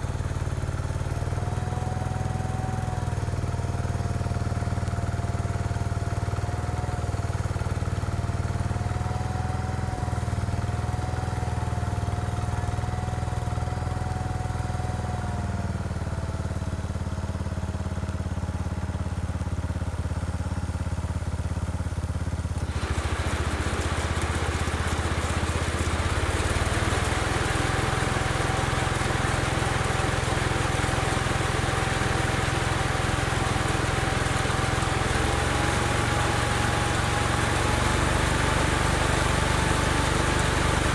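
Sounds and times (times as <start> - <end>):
garden tractor engine whining: 0.0 - 40.9.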